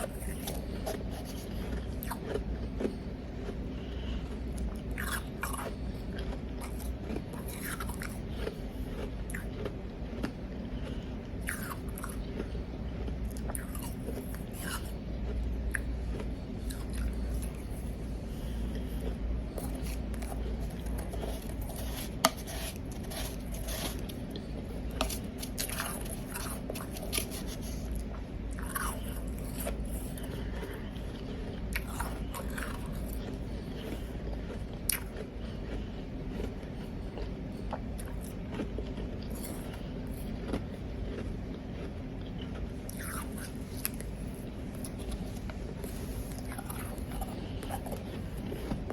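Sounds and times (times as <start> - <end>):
ice being chewed: 0.0 - 48.9.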